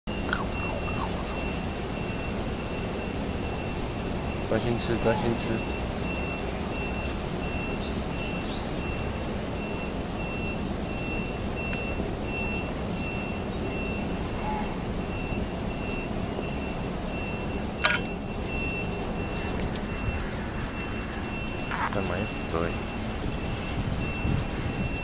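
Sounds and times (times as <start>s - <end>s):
reversing alarm beeping: 0.1s - 25.0s.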